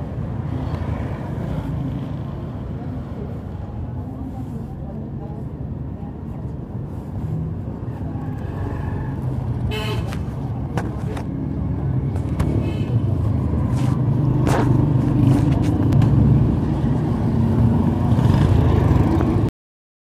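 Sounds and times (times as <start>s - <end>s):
road noise: 0.0s - 19.5s.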